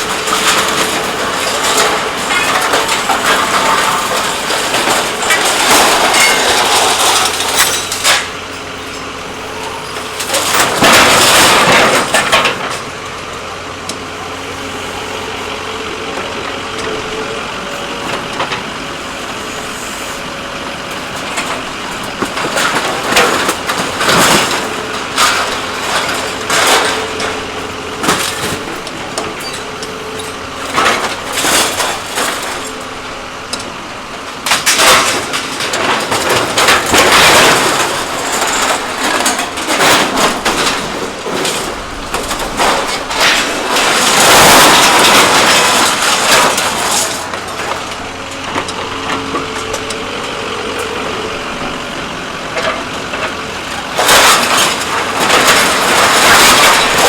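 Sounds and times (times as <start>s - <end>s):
metal clanking and scraping: 0.0s - 14.0s, 20.9s - 57.0s
truck engine running: 0.0s - 57.0s.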